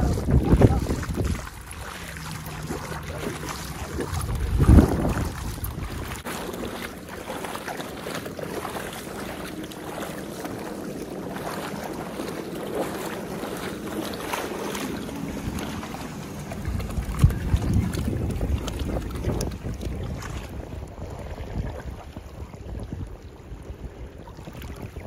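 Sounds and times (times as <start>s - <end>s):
wind buffeting microphone: 0.0s - 8.1s, 11.2s - 25.0s
water sloshing around dog's legs: 0.0s - 23.2s.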